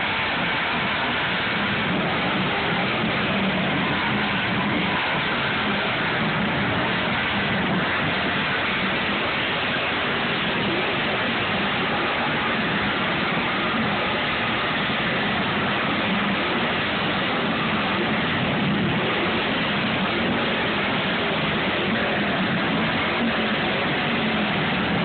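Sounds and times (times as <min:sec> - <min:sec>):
rushing hiss: 0:00.0 - 0:25.0
truck engines idling: 0:00.0 - 0:25.0.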